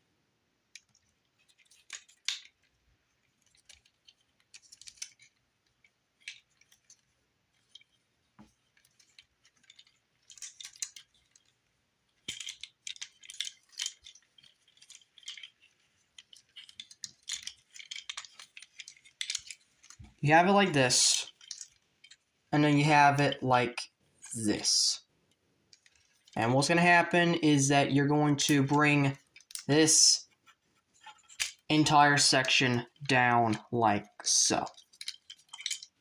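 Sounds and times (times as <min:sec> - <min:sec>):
plastic toy clicking and rattling: 0:00.7 - 0:20.2, 0:21.2 - 0:22.5, 0:25.3 - 0:27.0, 0:28.4 - 0:31.8, 0:32.4 - 0:36.0.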